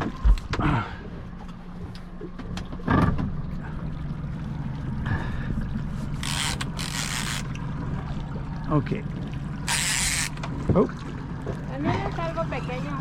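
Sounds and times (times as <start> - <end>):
outboard motor humming: 0.0 - 13.0.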